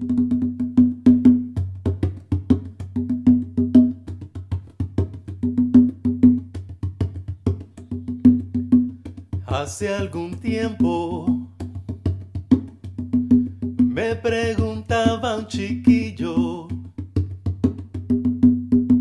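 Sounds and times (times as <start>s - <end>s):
hand drum slaps and tones: 0.0s - 19.0s.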